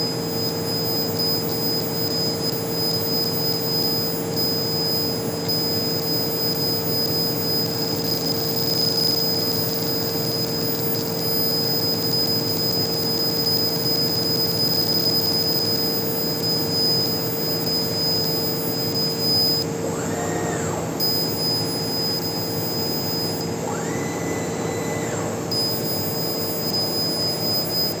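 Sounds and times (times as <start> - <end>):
engraving machine humming: 0.0 - 28.0
machine whine: 0.0 - 28.0.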